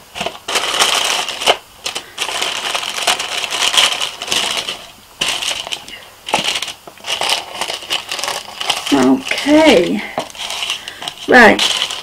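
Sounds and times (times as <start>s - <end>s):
tissue paper rustling: 0.0s - 12.0s.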